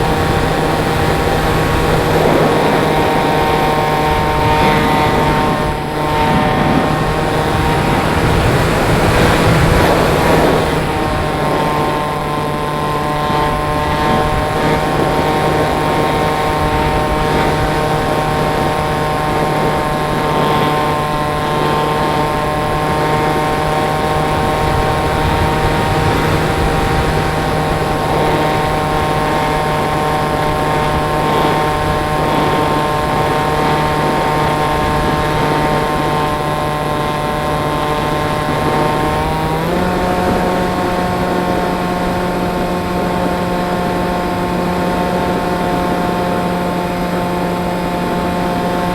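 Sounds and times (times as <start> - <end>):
propeller motor whine: 0.0 - 48.9
wind rush: 0.0 - 48.9.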